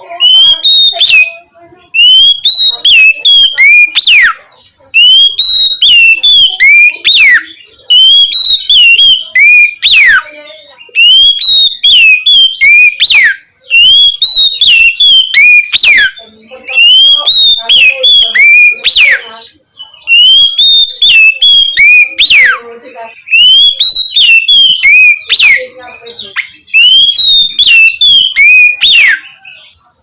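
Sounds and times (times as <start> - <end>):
magpie-robin singing: 0.0 - 30.0.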